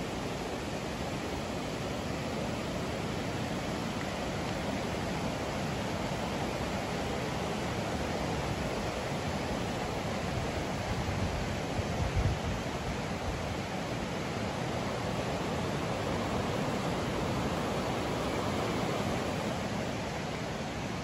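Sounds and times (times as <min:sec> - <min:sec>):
fast river rushing: 0:00.0 - 0:21.0.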